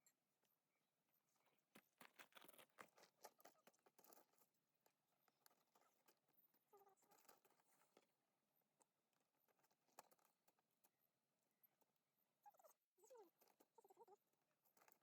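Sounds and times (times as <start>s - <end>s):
faint clicks and rustling crackles: 0.0s - 15.0s.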